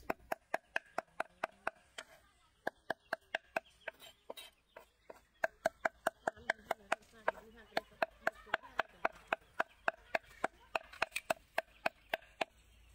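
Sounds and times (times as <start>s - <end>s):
cleaver chopping on wooden block: 0.0s - 12.6s.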